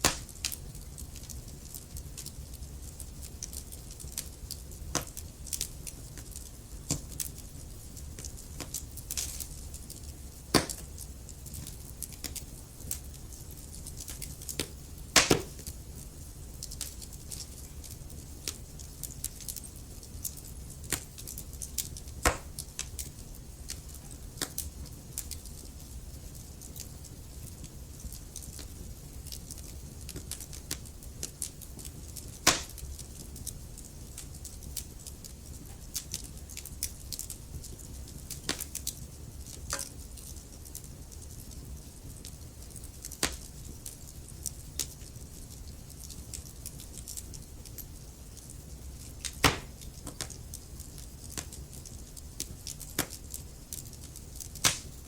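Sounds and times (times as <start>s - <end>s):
log fire crackling and popping: 0.0s - 55.0s.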